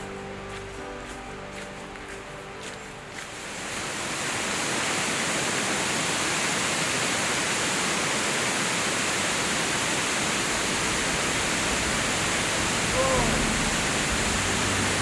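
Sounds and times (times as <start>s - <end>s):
rush of fast-flowing water: 0.0s - 15.0s.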